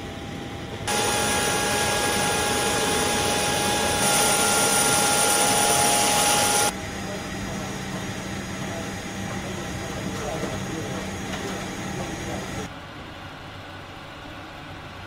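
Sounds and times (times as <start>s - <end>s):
jet turbine rush and whine: 0.0s - 12.7s.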